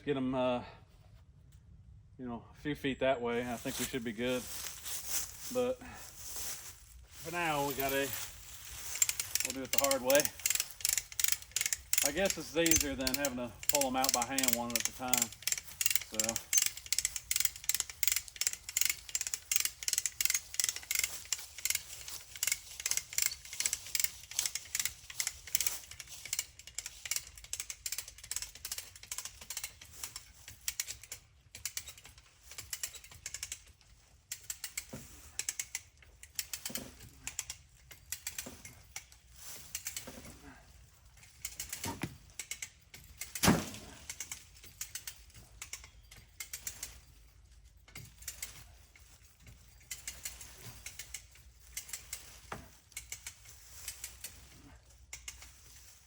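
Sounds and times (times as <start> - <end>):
ratchet strap pawl clicking: 7.2 - 56.0.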